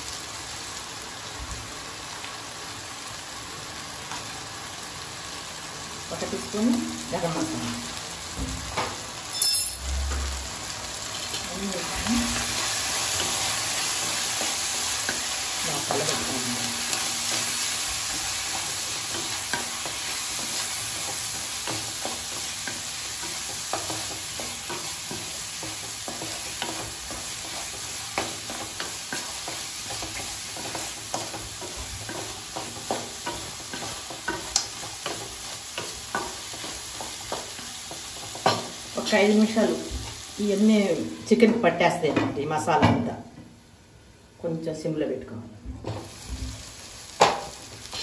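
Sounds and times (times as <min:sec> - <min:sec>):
chicken sizzling in oil: 0:00.0 - 0:42.0, 0:46.0 - 0:48.0.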